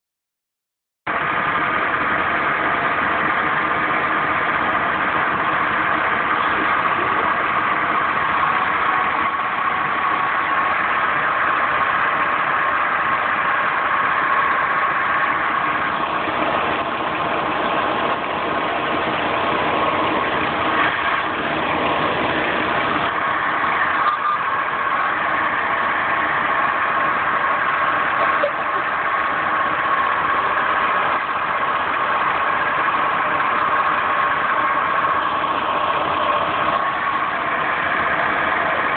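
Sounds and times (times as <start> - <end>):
car engine idling: 1.1 - 38.9
constant tone in engine: 1.1 - 38.9.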